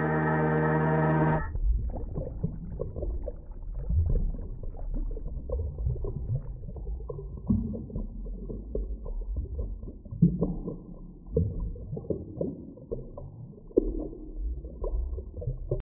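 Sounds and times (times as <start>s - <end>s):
muffled underwater rumbling: 0.0s - 15.8s
water gurgles and knocks: 1.5s - 15.8s.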